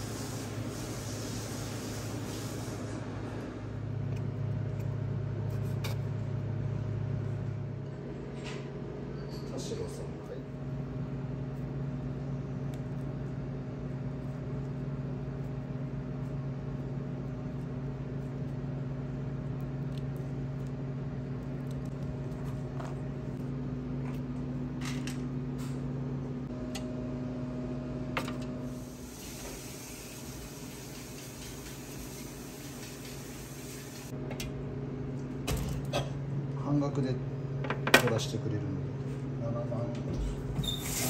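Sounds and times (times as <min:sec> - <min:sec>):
steady machine hum: 0:00.0 - 0:40.8.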